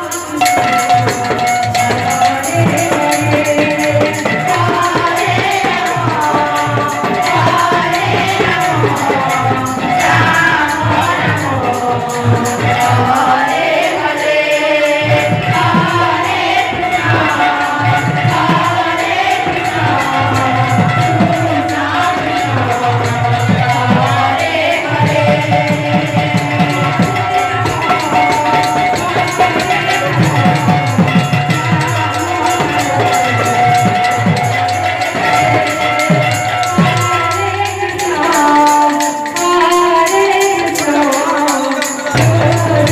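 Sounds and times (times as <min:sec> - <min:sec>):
drums: 0:00.0 - 0:42.9
jingling hand cymbals: 0:00.0 - 0:42.9
women singing devotional song: 0:00.0 - 0:42.9.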